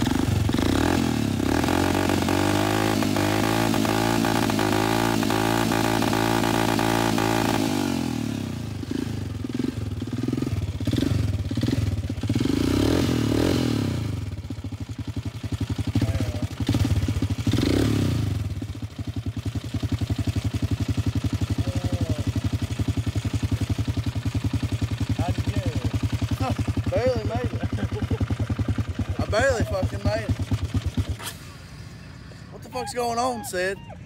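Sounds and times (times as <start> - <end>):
atv engine revving and idling: 0.0 - 34.0.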